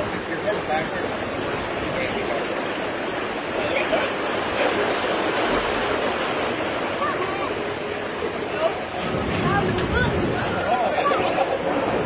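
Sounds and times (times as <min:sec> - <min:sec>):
rushing churning water: 0:00.0 - 0:12.0.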